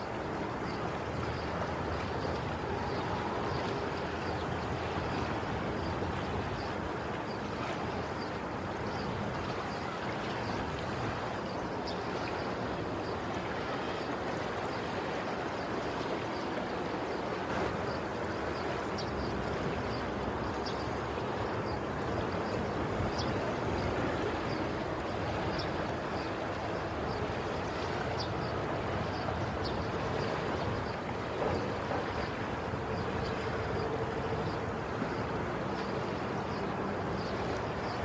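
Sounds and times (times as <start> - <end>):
sea waves washing in: 0.0 - 38.0.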